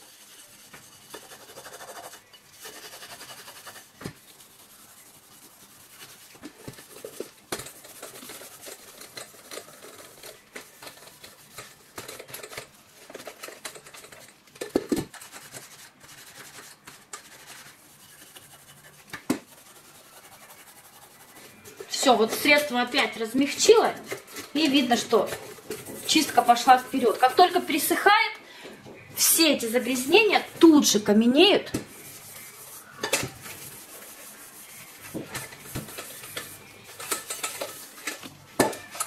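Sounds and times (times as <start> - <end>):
scouring pad scrubbing a steel pot: 0.0 - 14.3, 15.1 - 28.2, 29.2 - 39.0.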